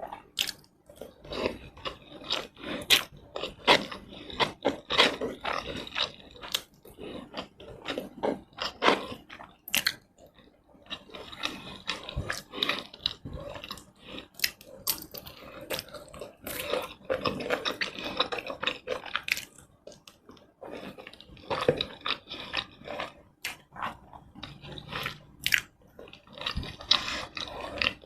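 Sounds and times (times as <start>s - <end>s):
person chewing and smacking: 0.0s - 28.0s.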